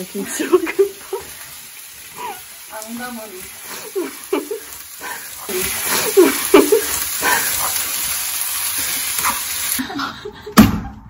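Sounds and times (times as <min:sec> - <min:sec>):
rice sizzling in a frying pan: 0:00.0 - 0:10.0.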